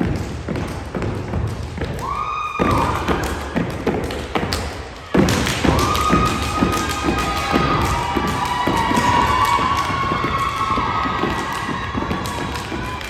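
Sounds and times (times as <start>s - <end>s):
hand claps and slaps: 0.0s - 13.0s.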